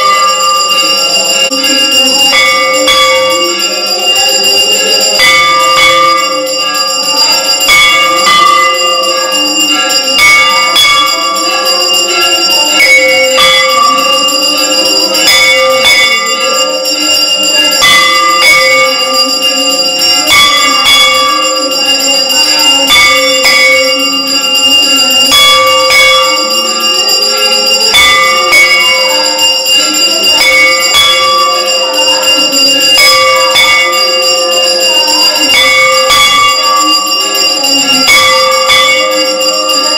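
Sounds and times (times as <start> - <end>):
temple bells ringing: 0.0 - 39.9.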